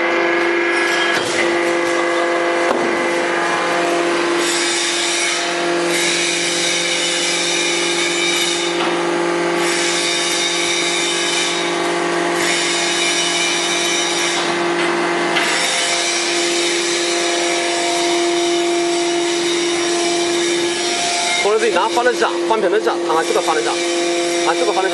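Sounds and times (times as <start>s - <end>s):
hydraulic motor and pump hum: 0.0s - 24.9s.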